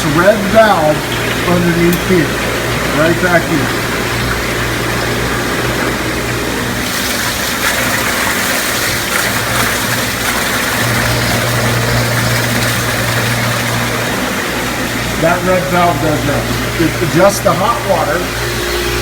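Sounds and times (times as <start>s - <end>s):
water spraying and splashing: 0.0s - 17.1s
pump humming: 0.0s - 19.0s.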